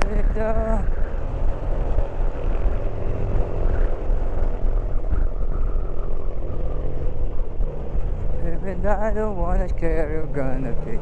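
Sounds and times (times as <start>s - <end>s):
motorcycle engine: 0.0s - 11.0s
wind rumble on microphone: 0.0s - 11.0s.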